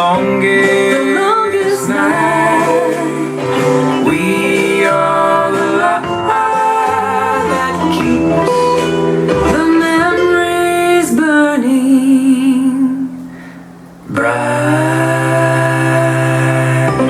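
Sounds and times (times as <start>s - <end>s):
acoustic guitar song: 0.0s - 17.0s.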